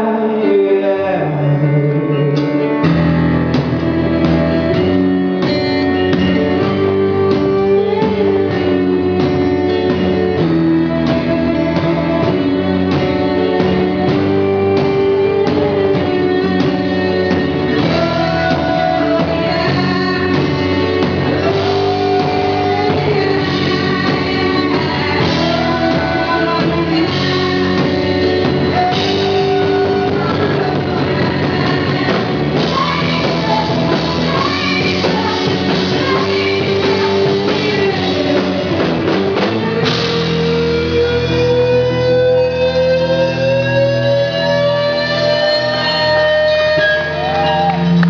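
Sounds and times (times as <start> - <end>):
bass guitar: 0.0 - 48.0
electric guitar: 0.0 - 48.0
stage piano: 0.0 - 48.0
woman singing: 3.8 - 47.7.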